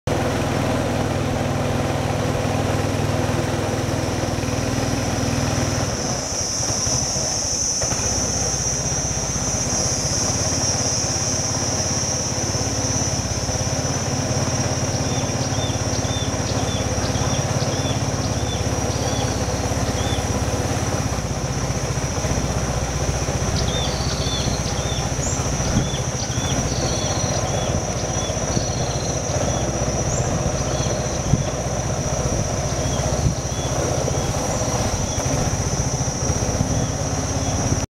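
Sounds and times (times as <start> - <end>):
motorboat engine running: 0.0 - 37.9
high steady whine: 0.1 - 37.9.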